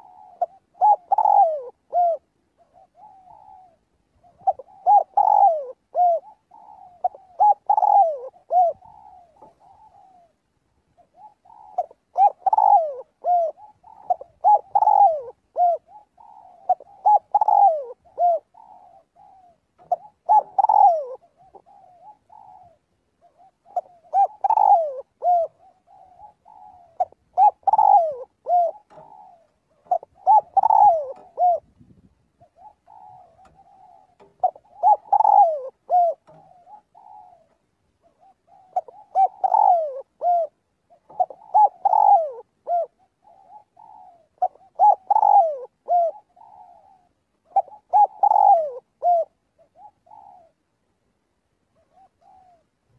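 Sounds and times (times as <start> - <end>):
dove cooing: 0.0 - 50.8, 51.7 - 52.9.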